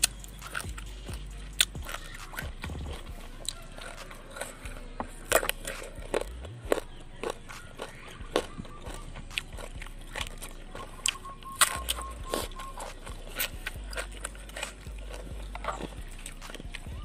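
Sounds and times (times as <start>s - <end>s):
chewing raw vegetables: 0.0s - 17.0s.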